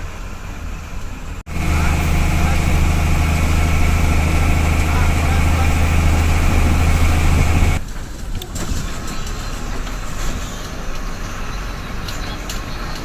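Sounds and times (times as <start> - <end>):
bus engine humming: 0.0 - 13.0
road and vehicle noise: 0.0 - 13.0.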